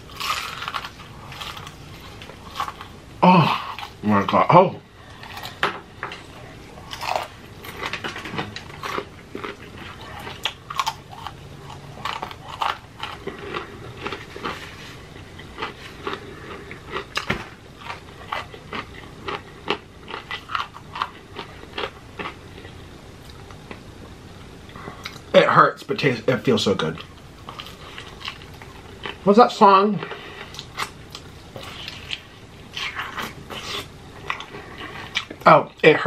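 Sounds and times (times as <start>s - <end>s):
crunchy chewing of fried chicken: 0.0s - 23.9s, 26.5s - 36.0s.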